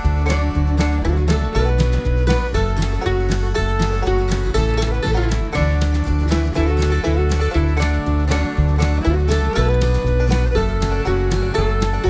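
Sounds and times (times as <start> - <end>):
upbeat country tune with plucked strings: 0.0 - 12.0.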